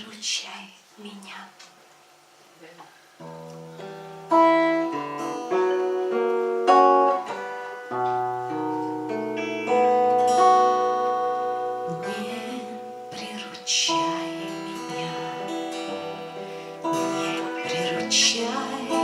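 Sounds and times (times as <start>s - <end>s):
acoustic guitar plucked chords: 3.2s - 19.0s.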